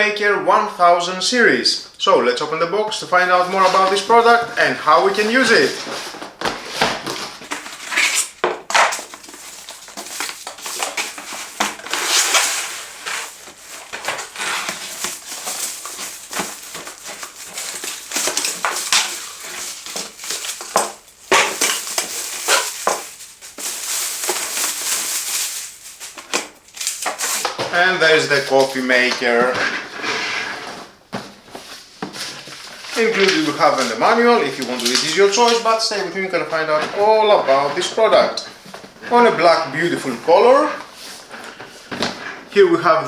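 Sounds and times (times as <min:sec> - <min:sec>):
packaging rustling and crinkling: 0:03.1 - 0:30.0, 0:30.7 - 0:42.6
cardboard scraping: 0:03.1 - 0:42.6.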